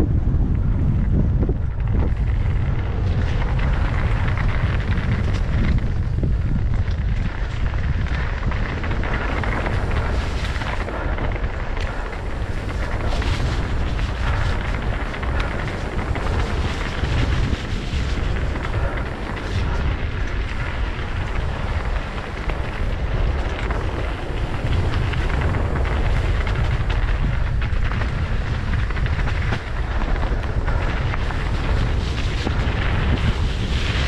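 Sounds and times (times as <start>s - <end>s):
bike rattling: 0.0s - 34.0s
wind buffeting microphone: 0.0s - 34.0s.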